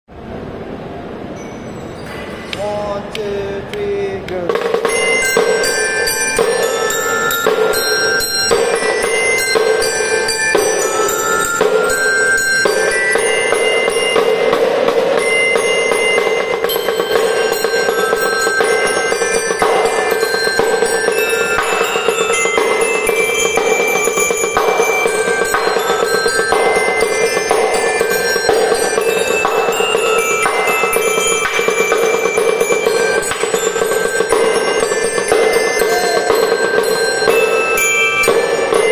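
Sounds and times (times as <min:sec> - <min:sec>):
bell lyres melody: 0:01.0 - 0:38.9
fast snare drumming: 0:02.6 - 0:38.9.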